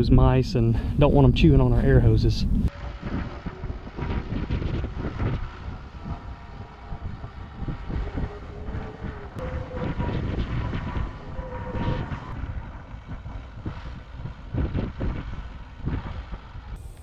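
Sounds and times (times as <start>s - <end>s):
wind buffeting microphone: 0.0s - 17.0s
tractor engine running: 2.3s - 17.0s.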